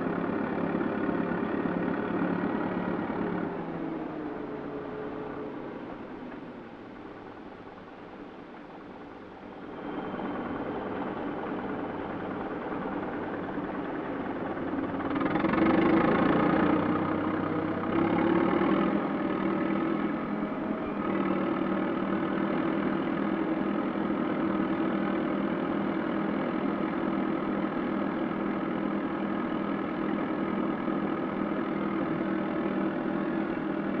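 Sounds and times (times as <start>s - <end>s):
bulldozer diesel engines running: 0.0s - 34.0s.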